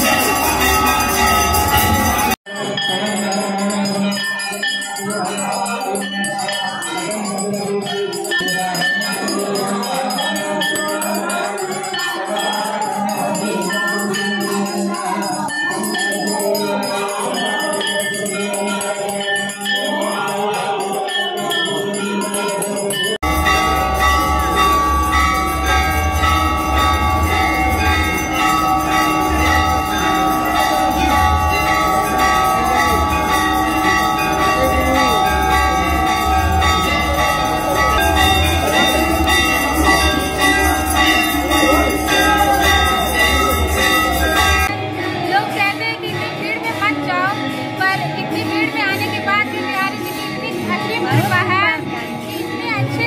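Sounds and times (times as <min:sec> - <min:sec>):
devotional singing and music: 0:00.0 - 0:53.0
temple bells ringing: 0:00.0 - 0:53.0.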